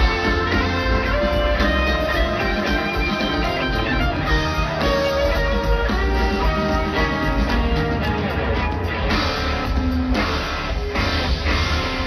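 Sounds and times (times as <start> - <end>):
live rock band: 0.0 - 12.0.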